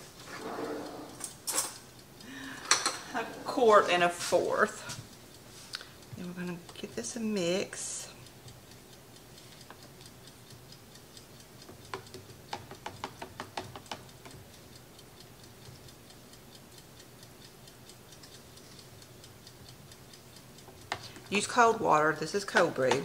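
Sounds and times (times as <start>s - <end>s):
faint rapid ticking: 1.0s - 23.0s.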